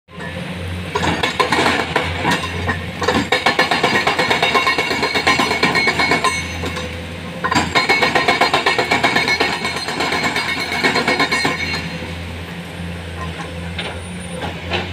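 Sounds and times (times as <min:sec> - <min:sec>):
low diesel engine hum: 0:00.1 - 0:07.9, 0:09.9 - 0:14.9
hydraulic rock breaker hammering: 0:00.1 - 0:12.1.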